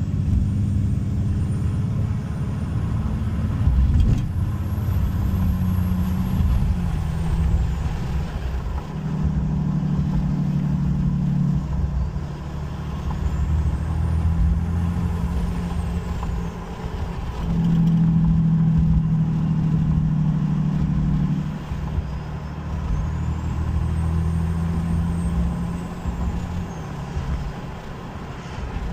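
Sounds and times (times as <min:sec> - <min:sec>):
diesel engine drone: 0:00.0 - 0:28.9.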